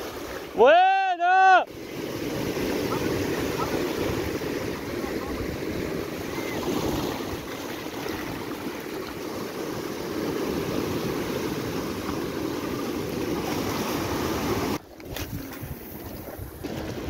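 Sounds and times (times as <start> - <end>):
surf breaking on rocks: 0.0 - 17.0.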